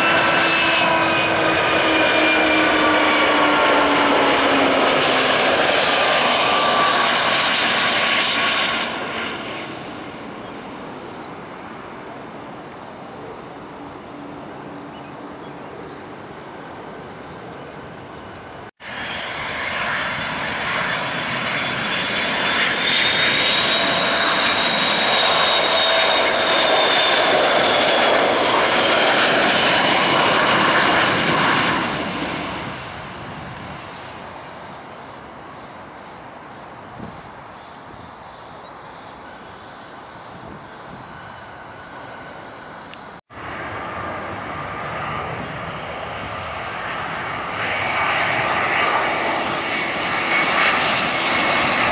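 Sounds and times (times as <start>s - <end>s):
high jet engine whine: 0.0s - 51.9s
jet airliner engines passing: 0.0s - 51.9s.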